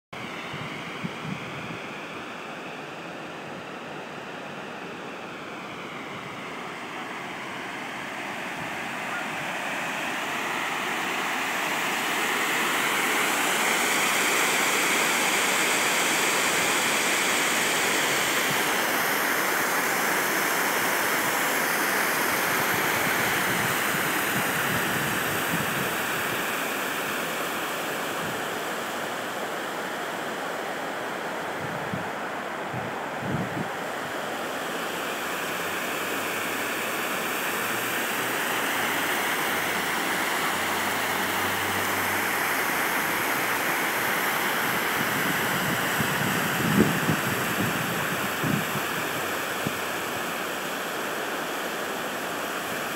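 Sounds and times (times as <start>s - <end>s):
water rushing over a dam: 0.2s - 52.9s.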